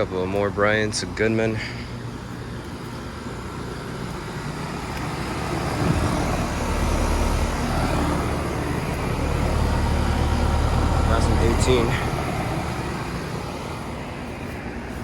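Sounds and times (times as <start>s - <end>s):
compressor hum: 0.0s - 15.0s
fan rushing air: 0.0s - 15.0s.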